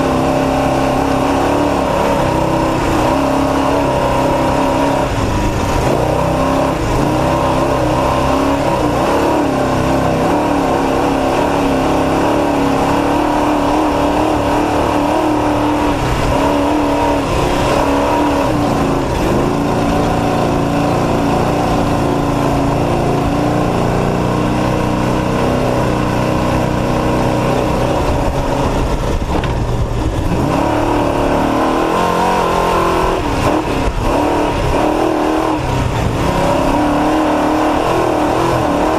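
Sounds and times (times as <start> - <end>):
rush of moving truck noise: 0.0 - 38.9
truck engine running hard: 0.0 - 38.9.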